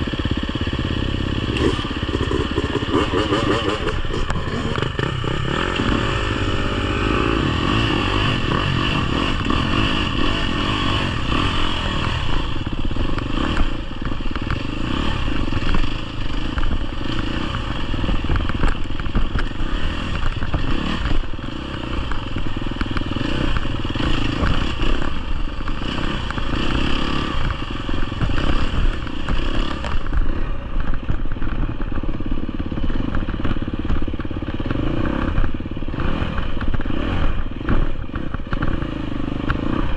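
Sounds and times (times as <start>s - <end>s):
dirt bike engine revving: 0.0s - 30.5s, 32.6s - 39.9s.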